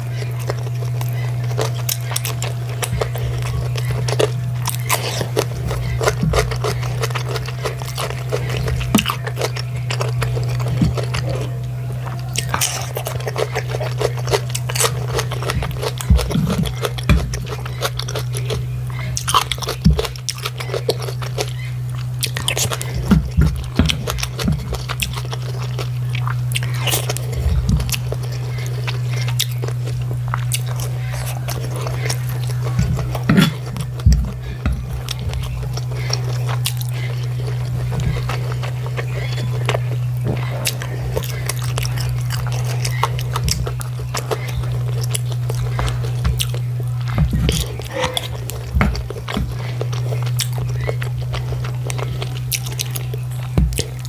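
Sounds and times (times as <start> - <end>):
mouth chewing food: 0.0 - 54.0
steady low hum: 0.0 - 54.0.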